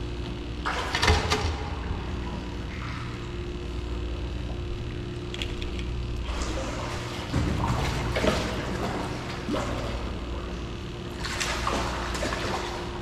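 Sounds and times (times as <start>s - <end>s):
steady low hum: 0.0s - 13.0s
water sloshing and gurgling: 0.1s - 13.0s.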